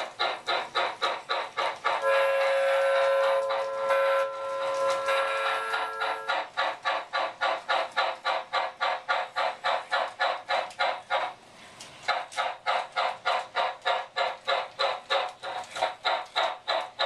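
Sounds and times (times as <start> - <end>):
electronic steam locomotive chuffs: 0.0 - 17.0.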